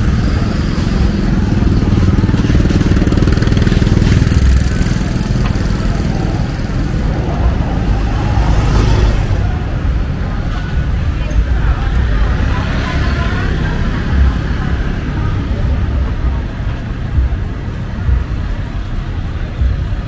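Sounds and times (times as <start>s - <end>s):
city street traffic: 0.0s - 20.0s
motorbike engines passing: 0.0s - 20.0s.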